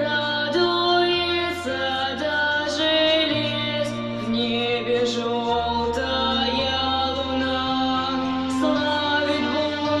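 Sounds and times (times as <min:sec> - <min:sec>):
instrumental accompaniment: 0:00.0 - 0:10.0.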